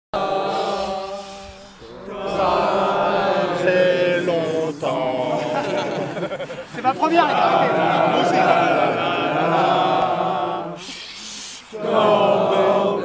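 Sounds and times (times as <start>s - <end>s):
group chanting in unison: 0.2s - 13.0s.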